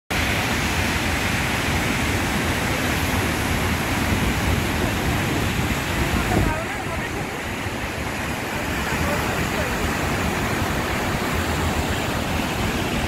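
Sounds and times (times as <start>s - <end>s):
waterfall rushing: 0.1s - 13.0s.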